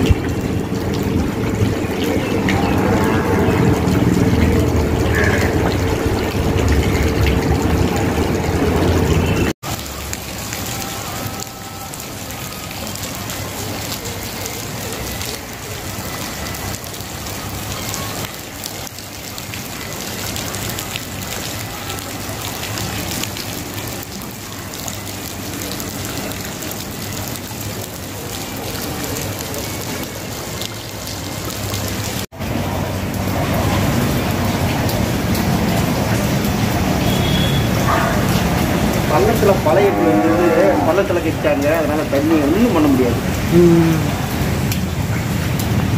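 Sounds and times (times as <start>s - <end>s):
rain falling on water: 0.0s - 45.9s.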